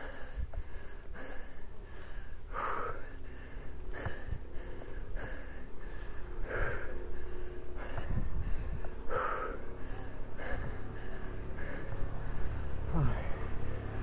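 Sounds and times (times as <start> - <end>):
cyclist breathing hard: 0.0 - 14.0.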